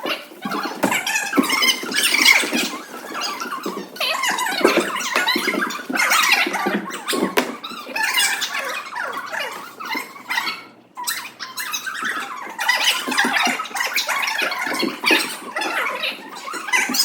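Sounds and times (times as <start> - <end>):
children shouting and squealing: 0.0 - 17.0.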